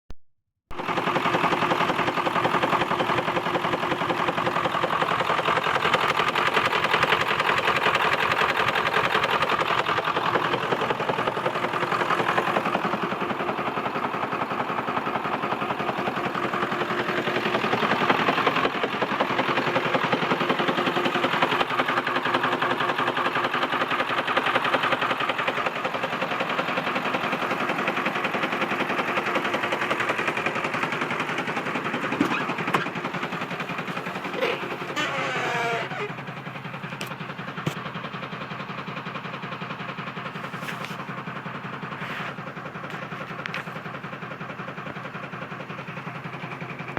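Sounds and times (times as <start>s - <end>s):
diesel engine knocking: 0.7s - 46.9s.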